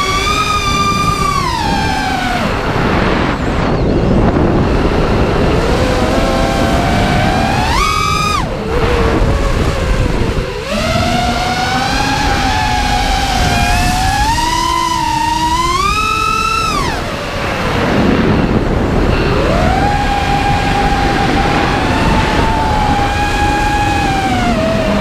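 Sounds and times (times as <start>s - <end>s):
drone motors whining: 0.0s - 25.0s
rushing noise: 0.0s - 25.0s.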